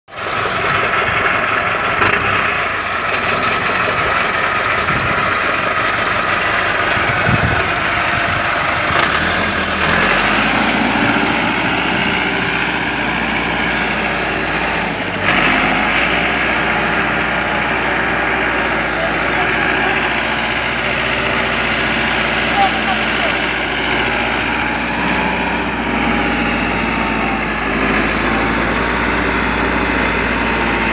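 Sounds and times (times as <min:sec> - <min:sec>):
tractor diesel engine running: 0:00.1 - 0:30.9.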